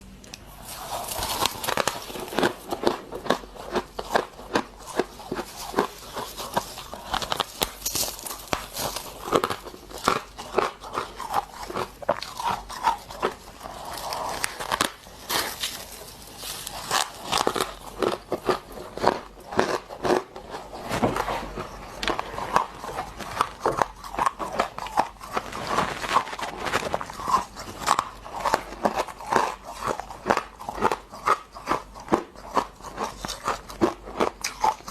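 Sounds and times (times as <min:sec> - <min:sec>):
crunching and chewing ice: 0:00.2 - 0:34.9.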